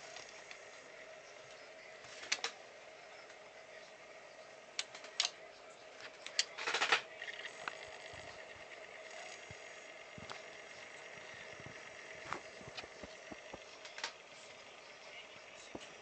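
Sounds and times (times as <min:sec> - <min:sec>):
cd player whine: 0:00.0 - 0:16.0.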